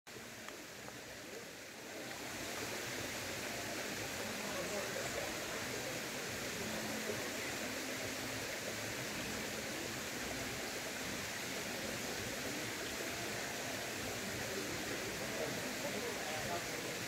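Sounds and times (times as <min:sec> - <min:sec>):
stream water rushing: 0:00.1 - 0:17.0.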